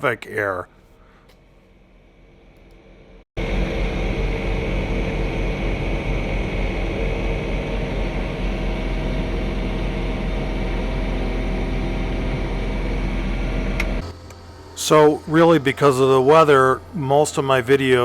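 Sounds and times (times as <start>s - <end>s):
tractor diesel engine running: 3.4s - 18.0s.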